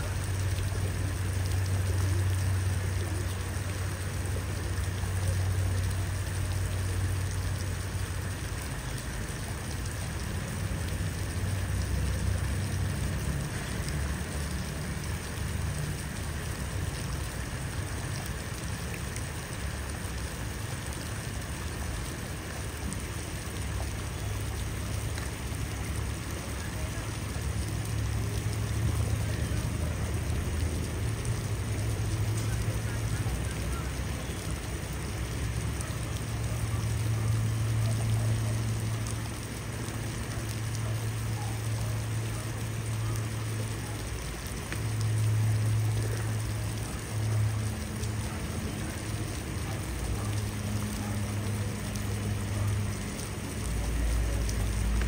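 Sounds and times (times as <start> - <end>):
pigeons splashing in puddle: 0.0 - 55.0.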